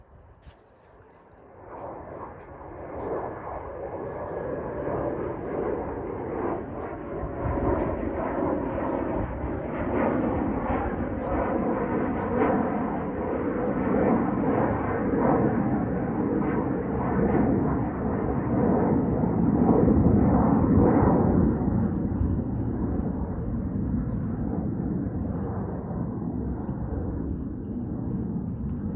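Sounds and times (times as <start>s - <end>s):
jet engine rush at takeoff: 0.0s - 28.9s.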